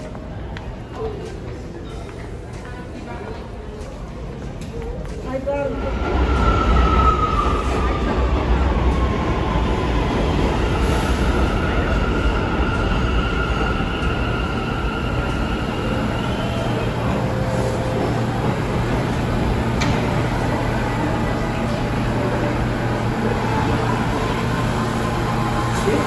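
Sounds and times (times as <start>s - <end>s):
subway train slowing to a stop: 0.0s - 26.0s.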